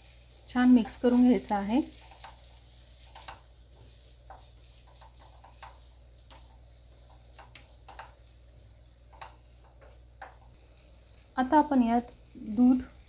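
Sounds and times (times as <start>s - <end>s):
spatula scraping a pan: 0.0s - 11.3s
faint frying hiss: 0.0s - 13.0s.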